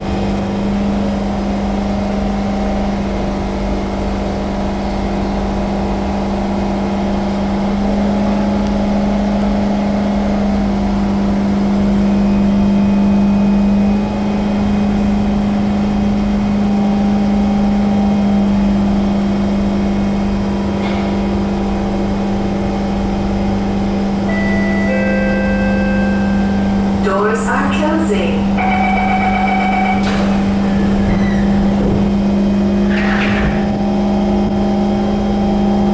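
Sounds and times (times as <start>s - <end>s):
train electrical hum: 0.0s - 35.9s
train low rumble: 0.0s - 35.9s.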